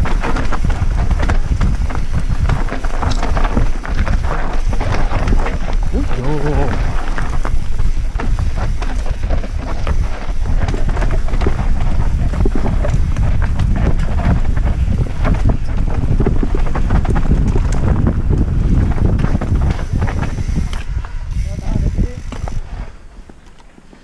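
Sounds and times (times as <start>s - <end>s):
tyres rumbling over dirt: 0.0s - 23.4s
wind buffeting microphone: 0.0s - 23.4s
bike rattles and knocks: 0.0s - 24.0s.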